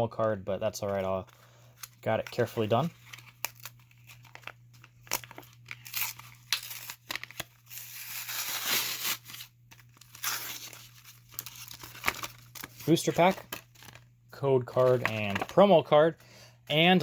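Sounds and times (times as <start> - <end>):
plastic packaging crinkling: 0.8 - 14.1, 14.7 - 15.8
plastic tearing and rustling: 0.8 - 14.1, 14.7 - 15.8.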